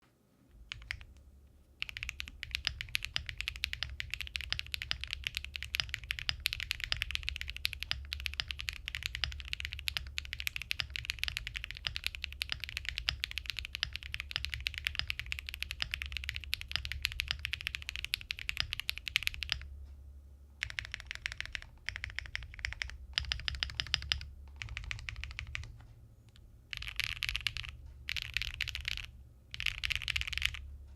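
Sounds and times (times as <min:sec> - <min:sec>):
mechanical keyboard typing: 0:00.6 - 0:01.2, 0:01.8 - 0:19.7, 0:20.6 - 0:30.9.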